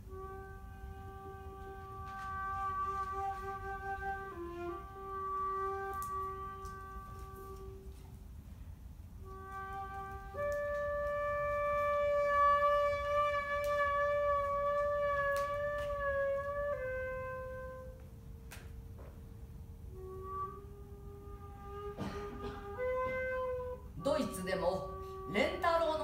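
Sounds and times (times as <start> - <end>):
bamboo flute melody: 0.0 - 26.0.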